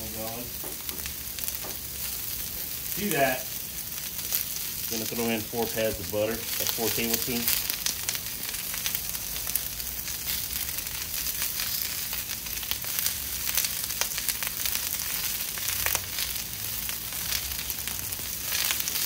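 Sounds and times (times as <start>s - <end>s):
onions and butter sizzling on griddle: 0.0s - 19.0s
small crackles and pops: 0.0s - 19.0s.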